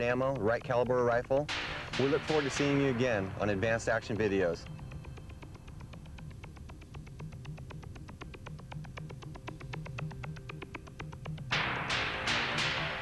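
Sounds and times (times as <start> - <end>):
low hum: 1.5 - 13.0.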